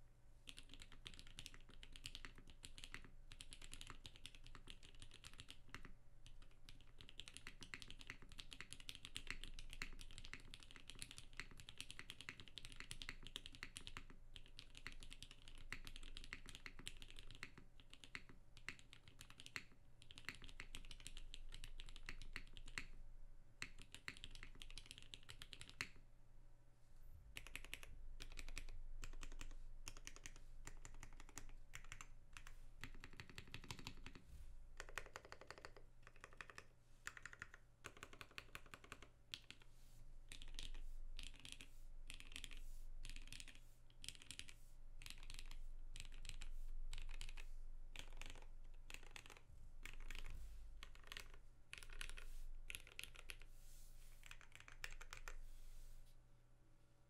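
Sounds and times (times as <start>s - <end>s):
faint low hum: 0.0s - 57.0s
mechanical keyboard typing: 0.5s - 23.0s, 23.6s - 26.0s, 27.4s - 34.2s, 34.8s - 39.6s, 40.3s - 53.4s, 54.2s - 55.4s.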